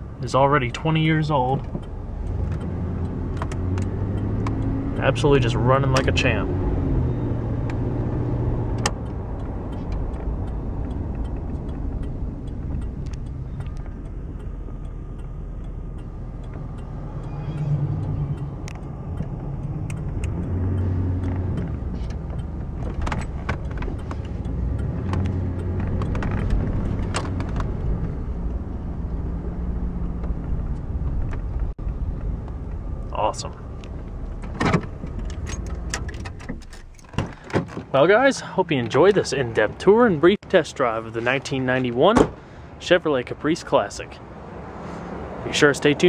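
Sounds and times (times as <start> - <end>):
car engine running: 0.0 - 40.1
road noise: 0.0 - 46.0.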